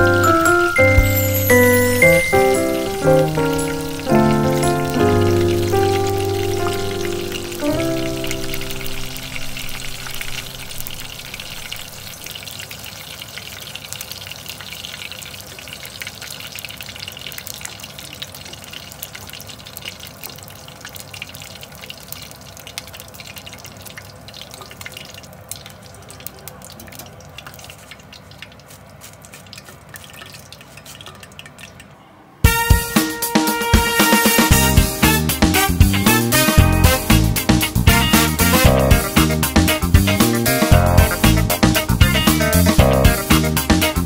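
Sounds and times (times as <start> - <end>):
shrimp deep-frying in oil: 0.0 - 44.0.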